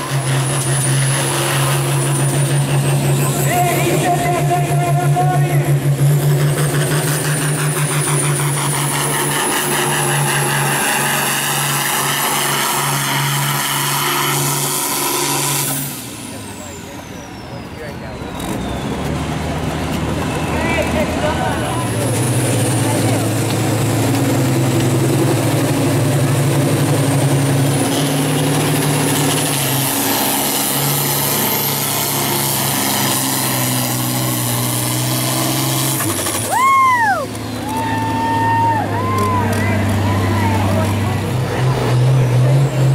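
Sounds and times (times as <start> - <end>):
diesel tractor under full load: 0.0 - 42.9.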